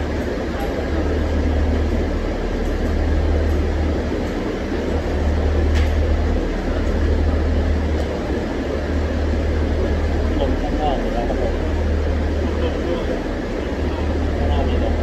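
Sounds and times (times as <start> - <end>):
loud low machine drone: 0.0 - 15.0.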